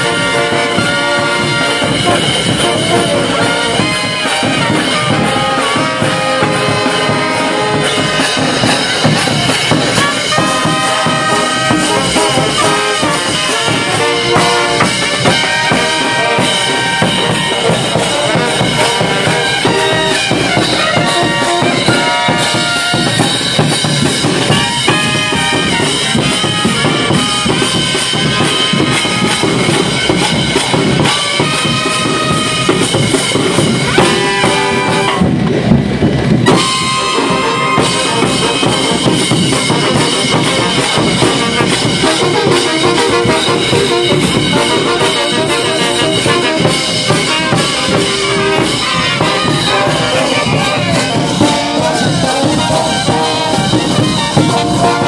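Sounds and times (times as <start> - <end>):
bass drum and percussion beat: 0.0 - 55.0
trumpets and brass playing: 0.0 - 55.0.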